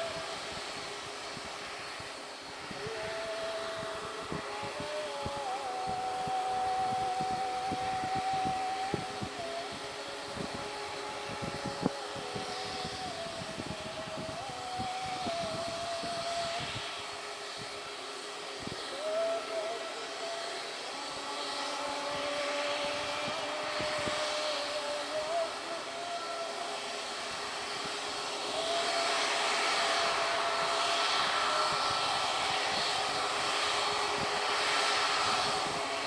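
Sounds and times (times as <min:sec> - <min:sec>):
aircraft engines whining: 0:00.0 - 0:36.0.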